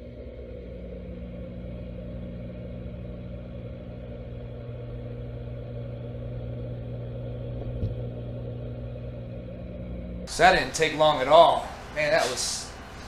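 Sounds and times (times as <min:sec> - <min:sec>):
muffled aquarium hum: 0:00.0 - 0:13.0.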